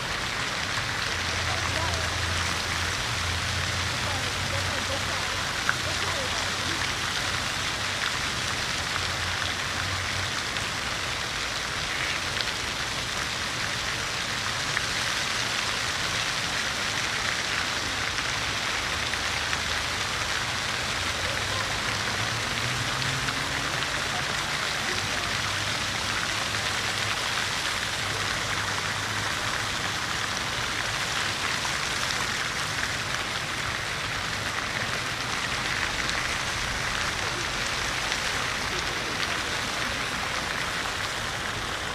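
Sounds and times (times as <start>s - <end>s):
fountain water splashing: 0.0s - 41.9s.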